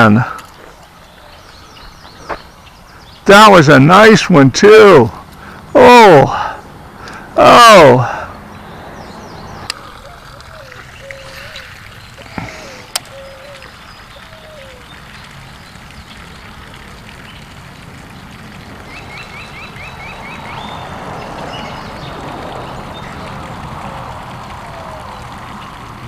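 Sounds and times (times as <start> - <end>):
birds calling: 0.0 - 25.8.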